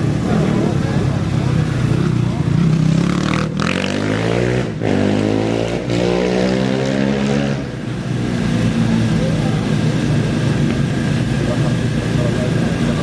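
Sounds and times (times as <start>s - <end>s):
race engine accelerating: 0.0s - 13.0s.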